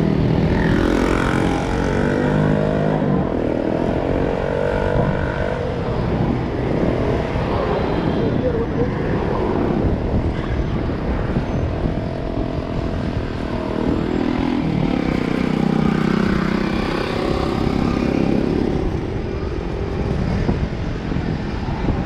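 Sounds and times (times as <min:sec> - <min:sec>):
road noise rumble: 0:00.0 - 0:22.0.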